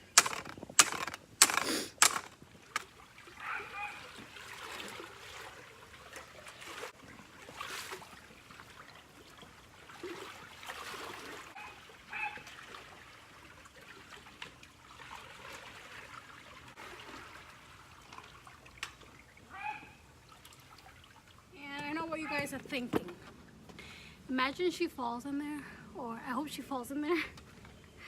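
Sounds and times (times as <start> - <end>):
pool water splashing and trickling: 0.0 - 28.0.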